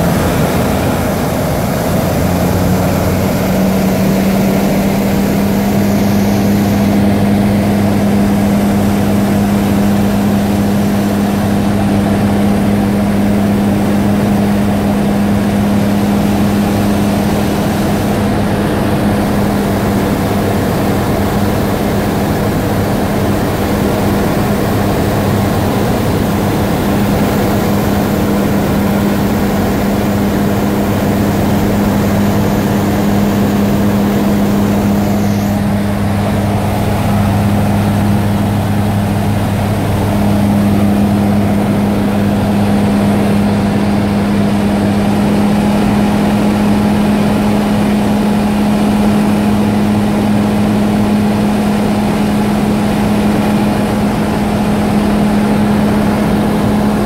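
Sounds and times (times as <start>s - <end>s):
rushing air: 0.0s - 11.9s, 12.5s - 51.0s
light aircraft engine drone: 0.0s - 57.0s.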